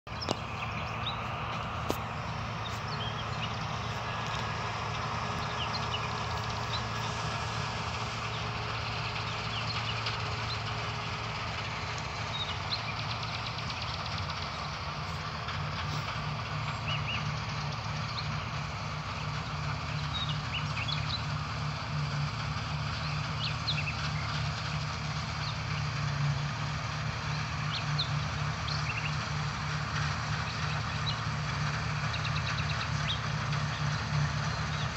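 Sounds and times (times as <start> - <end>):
birds chirping: 0.1 - 34.9
harvester engine humming: 0.1 - 34.9.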